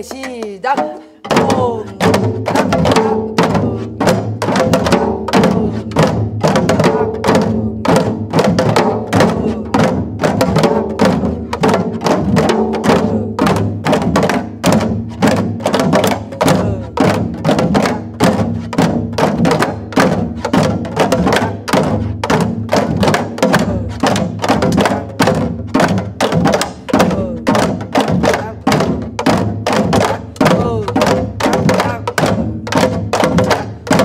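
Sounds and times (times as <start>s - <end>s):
hourglass drums playing rhythm: 0.0s - 34.0s.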